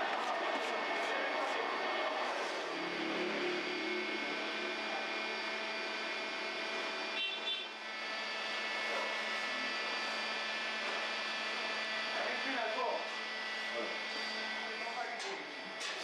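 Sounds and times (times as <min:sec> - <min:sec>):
machinery hum and whir: 0:00.0 - 0:16.0.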